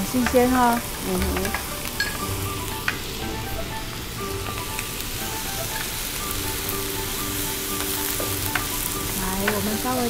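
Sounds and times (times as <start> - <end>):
cabbage sizzling in a pan: 0.0 - 10.0.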